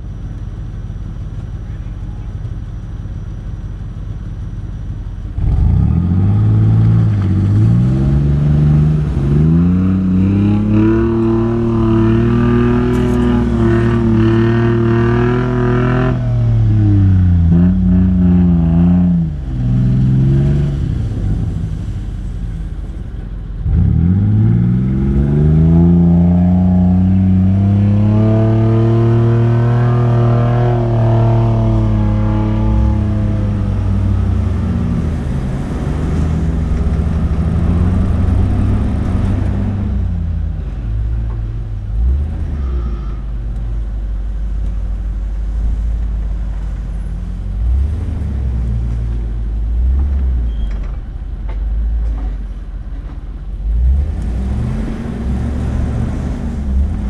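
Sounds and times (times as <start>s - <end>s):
car engine revving: 4.2s - 50.5s, 51.1s - 57.0s.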